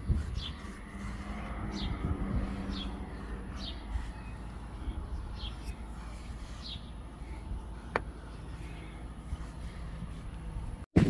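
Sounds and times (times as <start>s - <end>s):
bird chirping: 0.0s - 9.0s
low steady rumble: 0.0s - 10.9s.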